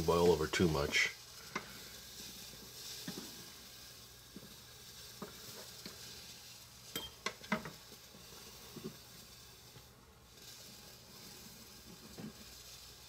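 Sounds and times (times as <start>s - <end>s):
water boiling: 0.0s - 13.0s.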